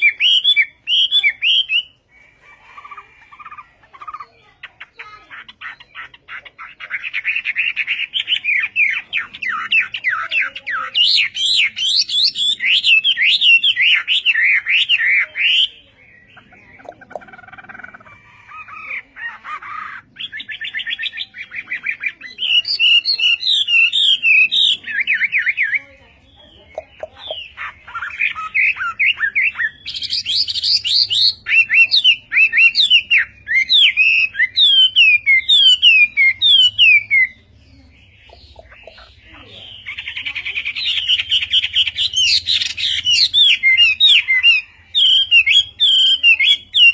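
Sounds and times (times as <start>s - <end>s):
bird singing whistles and trills: 0.0s - 2.0s, 5.6s - 18.0s, 19.7s - 25.8s, 26.7s - 37.4s, 38.0s - 46.9s.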